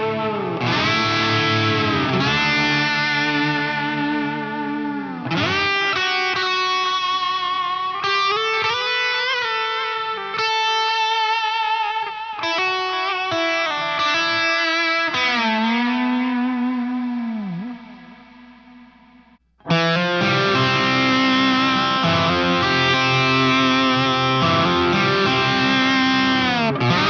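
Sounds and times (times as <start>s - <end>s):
overdriven electric guitar notes: 0.0s - 27.0s.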